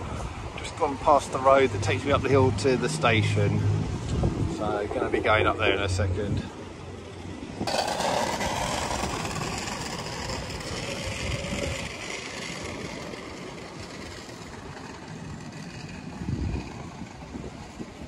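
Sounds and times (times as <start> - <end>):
traffic rumble: 0.0 - 18.0
vehicle passing: 0.9 - 18.0.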